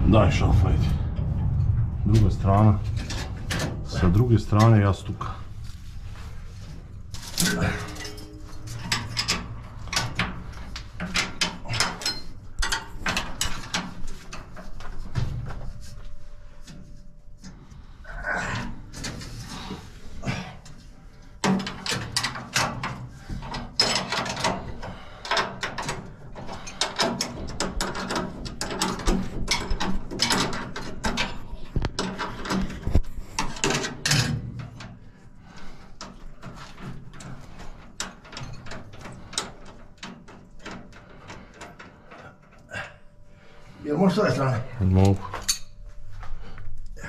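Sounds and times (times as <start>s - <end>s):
metal clattering and scraping: 0.0s - 44.6s.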